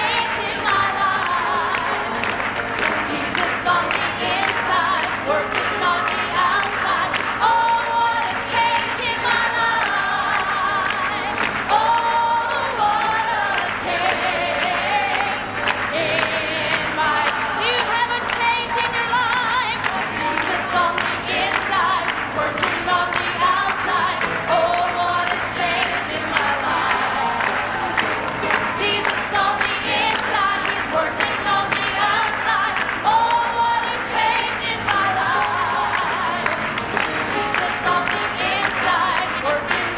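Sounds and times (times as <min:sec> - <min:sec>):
gospel choir singing: 0:00.0 - 0:39.9
musical accompaniment: 0:00.0 - 0:39.9
woman singing lead: 0:00.0 - 0:39.9.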